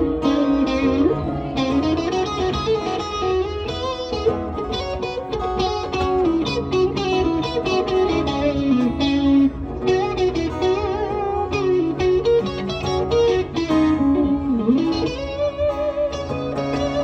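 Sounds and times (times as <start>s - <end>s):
acoustic guitar accompaniment: 0.0s - 17.0s
electric guitar lead with vibrato: 0.0s - 17.0s.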